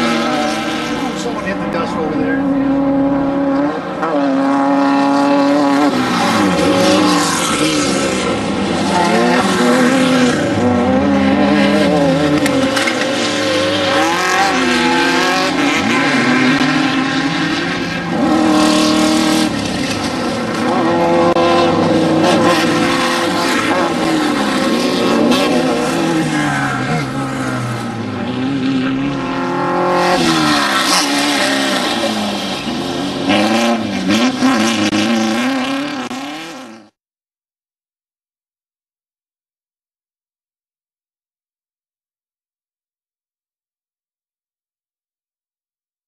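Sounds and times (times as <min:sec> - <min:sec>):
race vehicle engines revving: 0:00.0 - 0:37.0.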